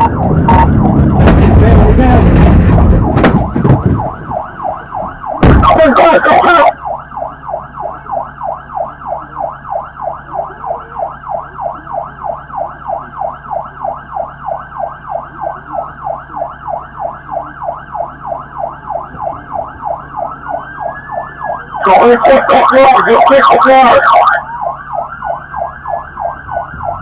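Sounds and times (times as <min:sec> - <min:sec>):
faint second siren wailing: 0:00.0 - 0:27.0
police siren yelping: 0:00.0 - 0:27.0.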